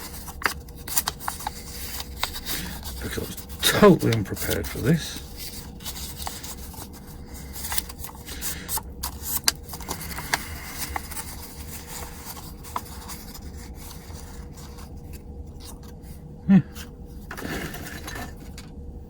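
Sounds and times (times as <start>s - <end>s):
paper being folded and creased: 0.0s - 16.2s.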